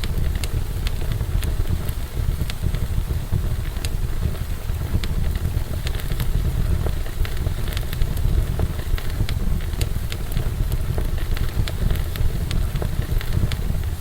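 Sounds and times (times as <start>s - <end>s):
burning logs crackling and popping: 0.0s - 14.0s
fire flame rumble: 0.0s - 14.0s.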